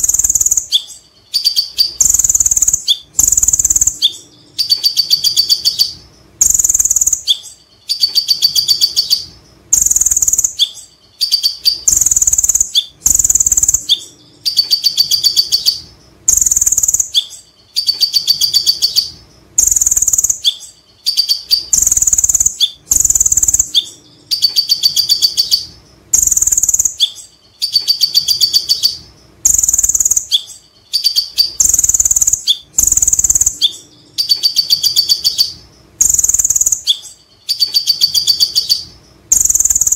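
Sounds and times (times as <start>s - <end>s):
bird singing chattering notes: 0.0s - 39.9s.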